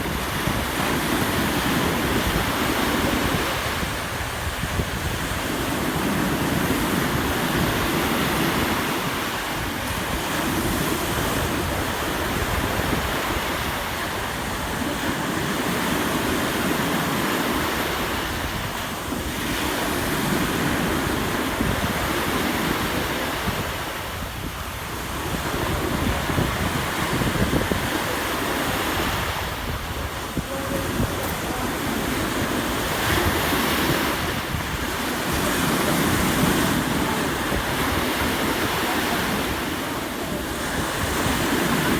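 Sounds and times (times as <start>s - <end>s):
sea waves washing onto beach: 0.0s - 41.9s
wind buffeting microphone: 0.0s - 41.9s.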